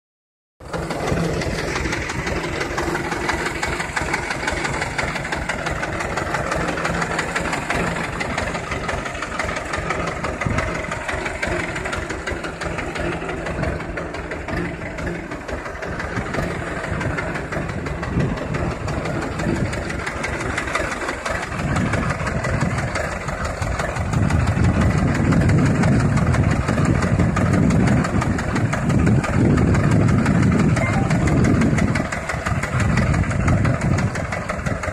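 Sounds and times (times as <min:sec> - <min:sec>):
tractor diesel engine idling: 0:00.6 - 0:34.9.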